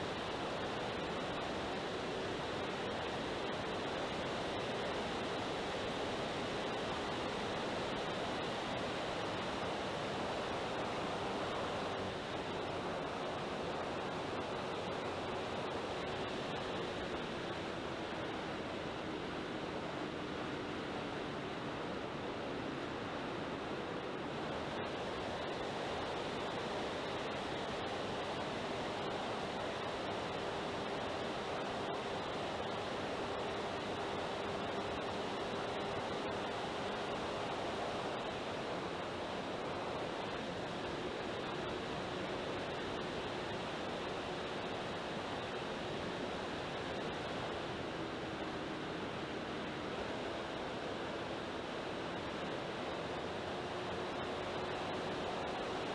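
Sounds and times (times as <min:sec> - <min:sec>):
faint motor and propeller drone: 0:00.0 - 0:55.9.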